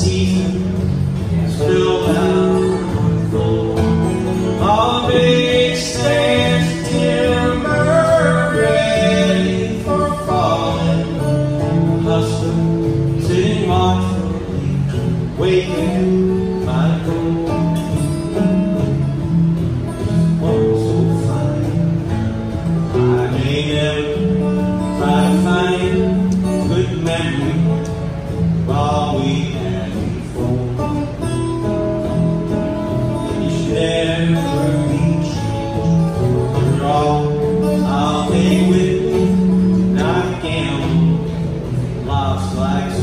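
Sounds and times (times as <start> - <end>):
man singing: 0.0 - 18.6, 22.7 - 31.3, 33.0 - 43.0
acoustic guitars playing: 0.0 - 43.0.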